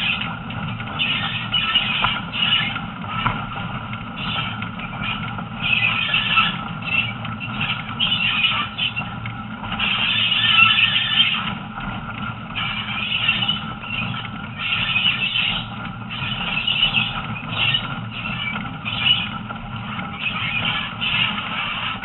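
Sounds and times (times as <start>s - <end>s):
train wheels rumbling: 0.0s - 22.0s
wheel flanges squealing on rails: 0.0s - 22.0s.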